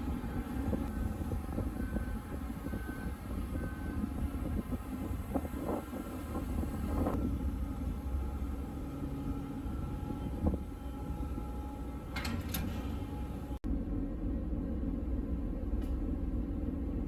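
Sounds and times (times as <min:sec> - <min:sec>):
low rumble of heavy machinery: 0:00.0 - 0:17.0.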